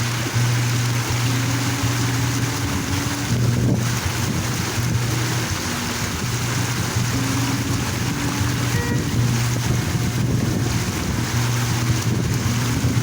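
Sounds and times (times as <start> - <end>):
soft background music: 0.0 - 13.0
water fountain splashing: 0.0 - 13.0.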